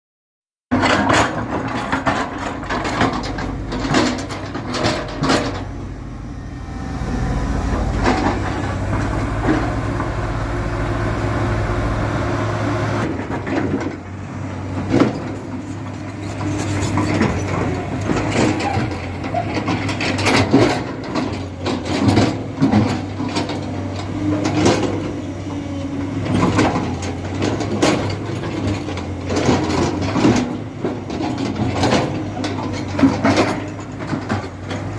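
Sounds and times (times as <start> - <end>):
bucket and arm clanking: 0.7 - 34.9
diesel engine under load: 0.7 - 34.9.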